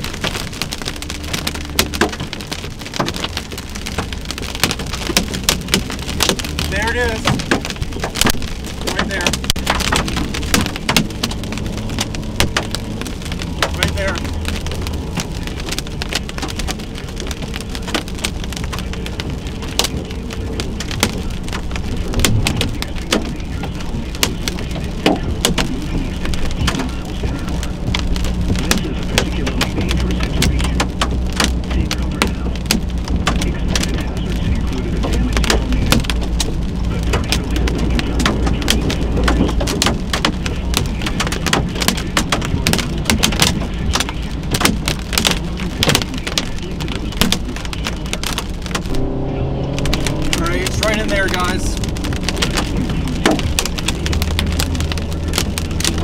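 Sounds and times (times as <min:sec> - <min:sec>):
heavy rain on a hard surface: 0:00.0 - 0:56.0
steady low rumble: 0:00.0 - 0:56.0.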